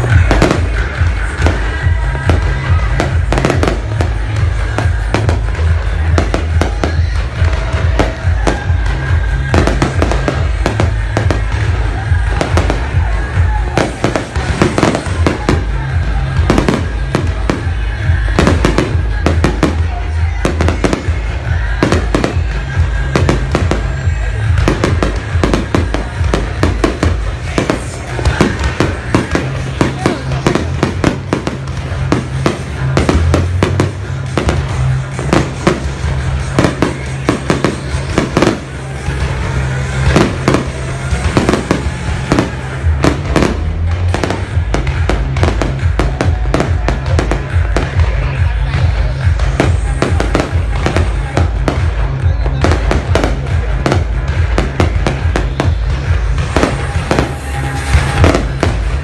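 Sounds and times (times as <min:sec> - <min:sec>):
bass-heavy music: 0:00.0 - 0:59.0
fireworks bangs: 0:00.0 - 0:59.0.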